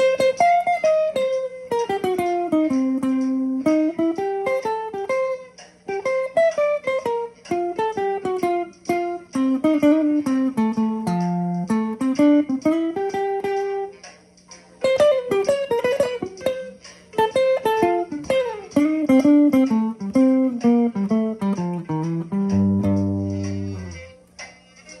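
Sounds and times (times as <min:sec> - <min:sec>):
electric guitar melody: 0:00.0 - 0:24.3.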